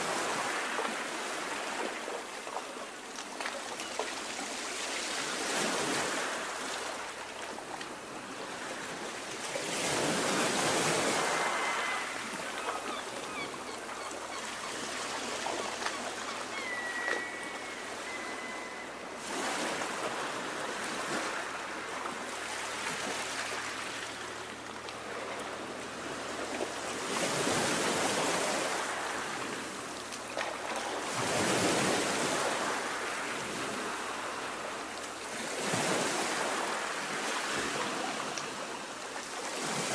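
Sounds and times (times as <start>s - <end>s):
sea waves splashing: 0.0s - 39.9s.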